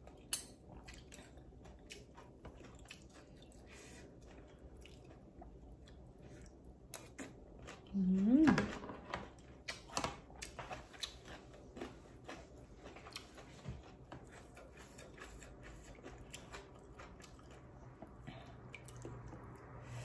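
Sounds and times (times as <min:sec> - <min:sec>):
chewing and mouth sounds: 0:00.0 - 0:20.0.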